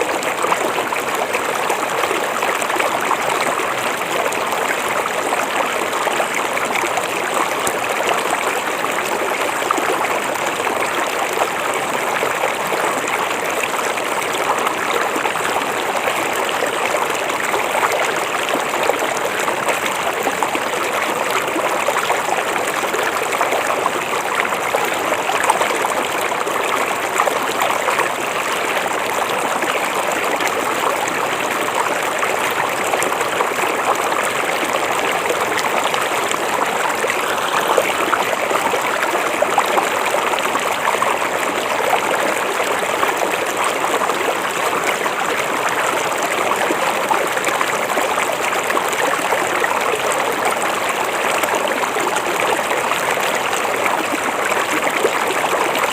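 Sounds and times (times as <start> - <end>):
river water over rocks: 0.0 - 55.9.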